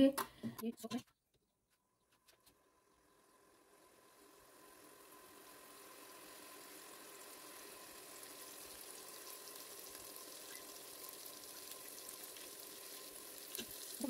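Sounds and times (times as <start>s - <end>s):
garlic sizzling in oil: 2.6s - 14.0s.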